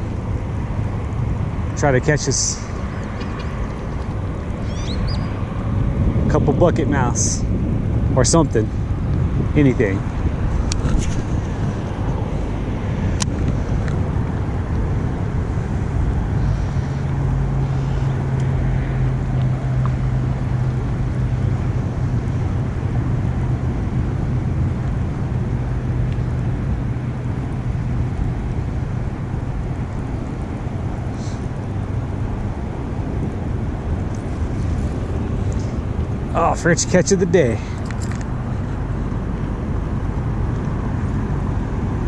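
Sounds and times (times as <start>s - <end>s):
low motor hum: 0.0s - 42.0s
wind rumbling on microphone: 0.0s - 42.0s.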